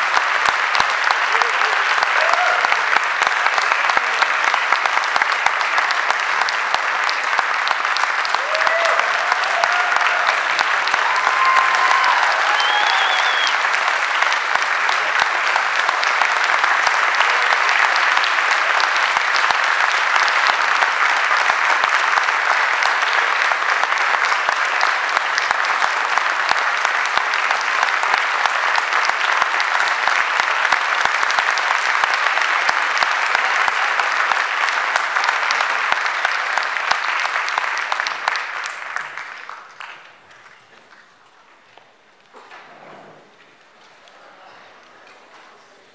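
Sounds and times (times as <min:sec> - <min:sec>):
audience applause: 0:00.0 - 0:41.8.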